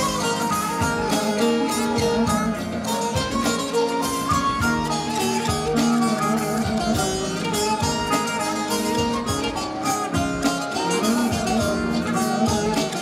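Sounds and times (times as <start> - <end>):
live band playing: 0.0 - 13.0
plucked strings: 0.0 - 13.0
steady beat: 0.0 - 13.0.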